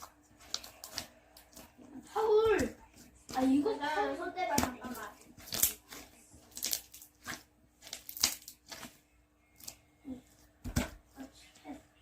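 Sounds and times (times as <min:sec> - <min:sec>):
rustling and scraping handling: 0:00.0 - 0:12.0.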